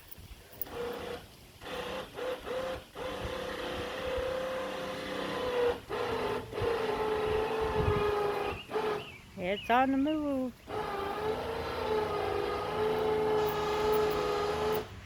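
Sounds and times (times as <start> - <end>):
electric winch motor whining: 0.6 - 9.2, 10.6 - 15.0.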